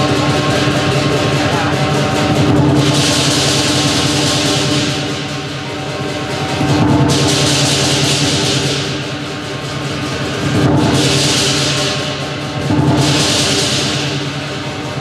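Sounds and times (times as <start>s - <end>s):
crashing cymbals: 0.0s - 15.0s
gong: 0.0s - 15.0s
large drum beating fast: 0.0s - 15.0s.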